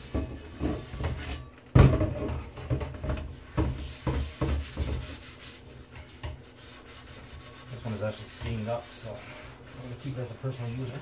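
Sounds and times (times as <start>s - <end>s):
pan scrubbing in metal sink: 0.0s - 11.0s.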